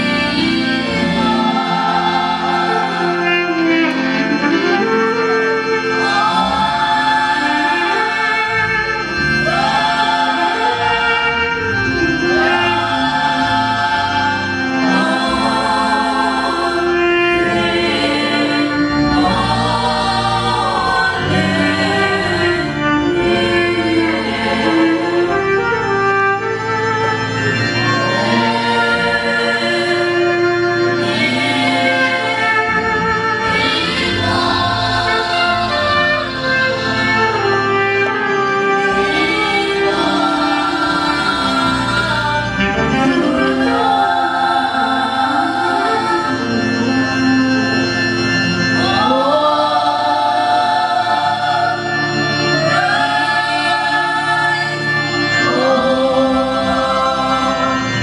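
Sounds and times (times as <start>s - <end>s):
choir singing gospel: 0.0s - 58.0s
instrumental accompaniment: 0.0s - 58.0s.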